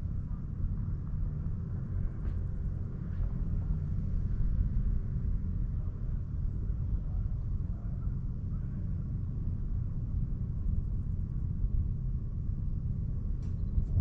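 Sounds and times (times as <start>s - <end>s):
distant car engine rumble: 0.0s - 14.0s.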